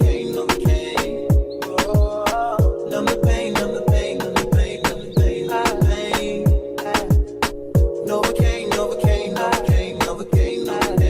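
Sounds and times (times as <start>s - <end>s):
hip hop beat music: 0.0s - 11.0s.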